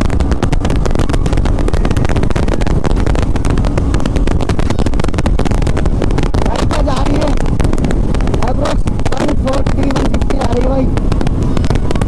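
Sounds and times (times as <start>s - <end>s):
motorcycle engine: 0.0s - 12.0s
wind buffeting microphone: 0.0s - 12.0s.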